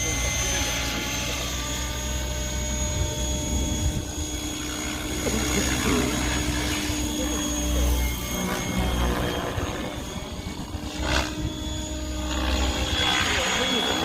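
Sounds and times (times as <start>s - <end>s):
electric motor whine: 0.0s - 14.0s
helicopter rotor hum: 0.0s - 14.0s.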